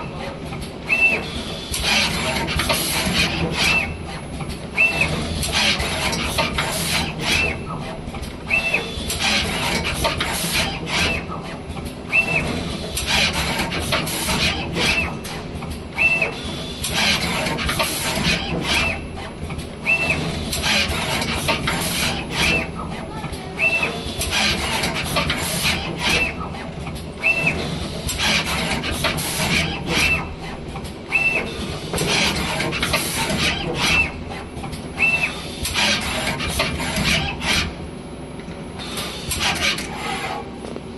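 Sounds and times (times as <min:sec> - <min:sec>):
mechanical clacks: 0:00.0 - 0:40.9.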